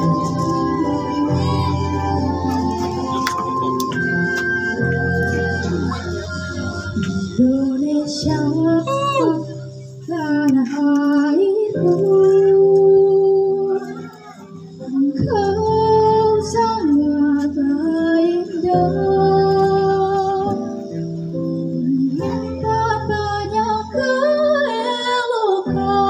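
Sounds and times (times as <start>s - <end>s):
girl singing into microphone: 0.0s - 3.2s, 5.2s - 26.0s
musical accompaniment: 0.0s - 26.0s.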